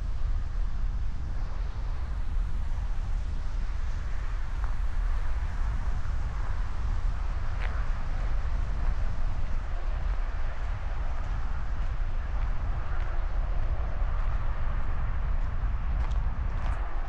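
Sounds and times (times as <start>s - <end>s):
outdoor ambience: 0.0s - 17.0s
wind buffeting microphone: 0.0s - 17.0s.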